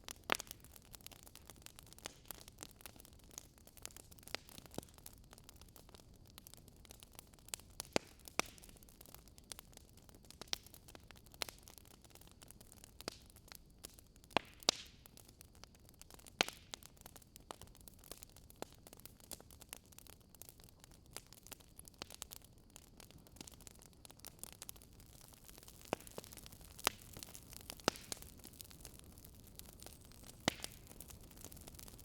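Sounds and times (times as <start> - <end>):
fire snaps and pops: 0.0 - 32.0.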